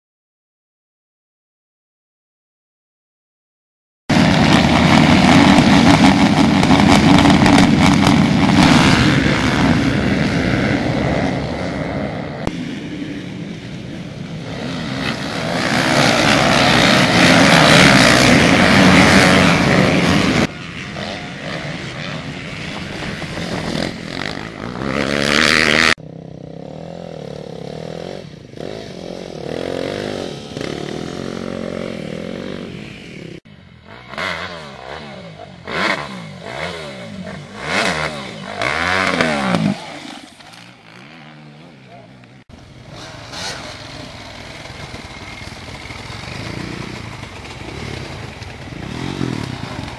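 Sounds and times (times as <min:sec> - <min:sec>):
dirt bikes racing: 0:04.1 - 0:49.9
motocross bike engines revving: 0:04.1 - 0:49.9.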